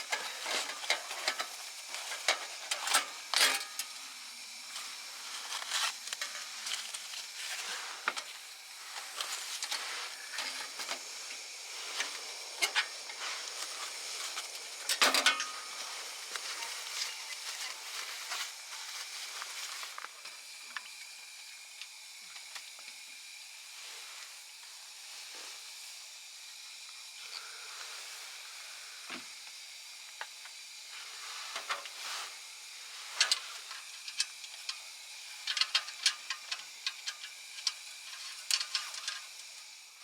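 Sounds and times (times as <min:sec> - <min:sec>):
wood fire hissing: 0:00.0 - 0:40.0.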